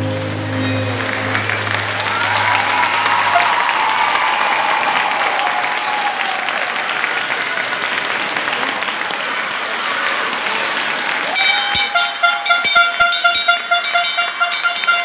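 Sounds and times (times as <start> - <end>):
audience applauding: 0.0 - 15.0
audience cheering: 0.0 - 15.0.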